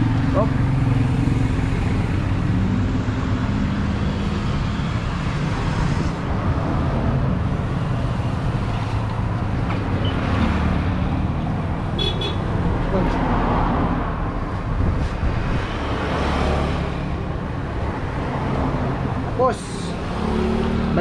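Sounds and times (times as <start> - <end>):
road traffic hum: 0.0 - 21.0.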